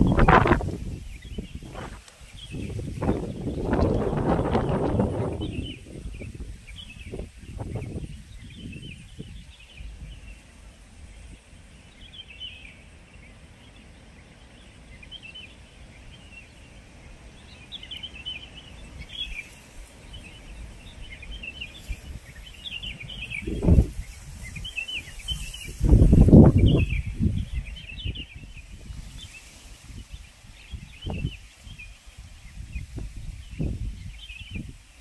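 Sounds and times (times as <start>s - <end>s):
wind buffeting microphone: 0.0s - 12.6s, 15.4s - 35.0s
birds chirping: 0.0s - 35.0s.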